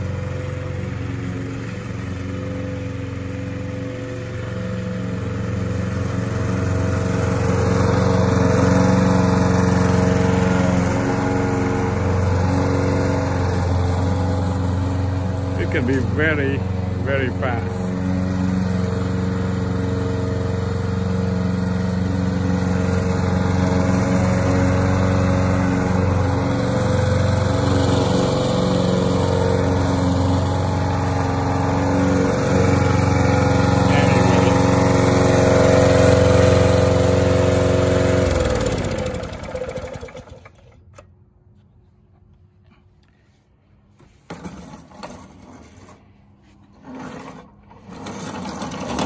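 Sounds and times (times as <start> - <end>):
lawn mower engine running: 0.0 - 41.4, 43.1 - 49.0.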